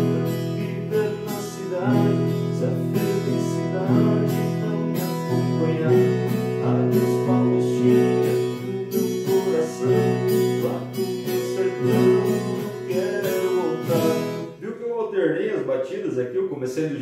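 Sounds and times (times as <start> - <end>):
folk guitar strumming: 0.0 - 14.6.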